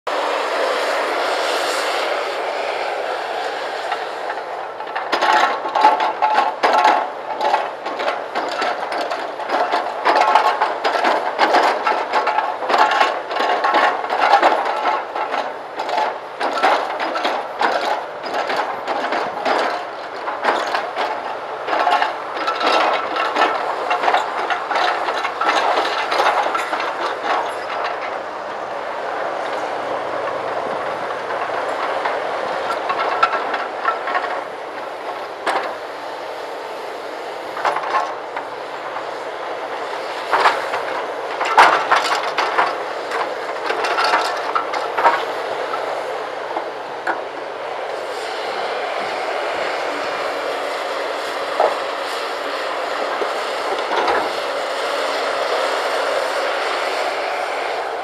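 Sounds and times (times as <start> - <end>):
excavator engine running: 0.1 - 58.0.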